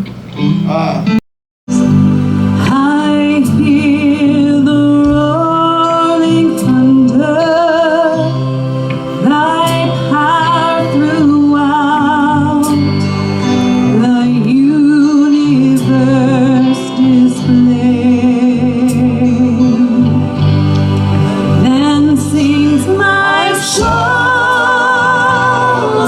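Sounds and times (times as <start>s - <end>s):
gospel band playing: 0.0s - 26.0s
person singing with vibrato: 1.7s - 26.0s.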